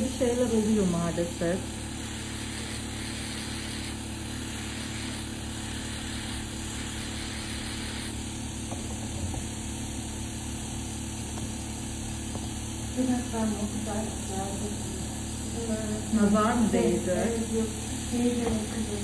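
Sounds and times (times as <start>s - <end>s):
rotary nail drill filing: 0.0s - 19.0s.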